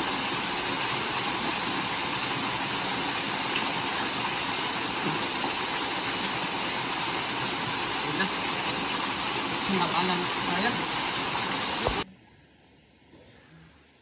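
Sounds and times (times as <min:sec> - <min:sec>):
waterfall splashing into pool: 0:00.0 - 0:12.0.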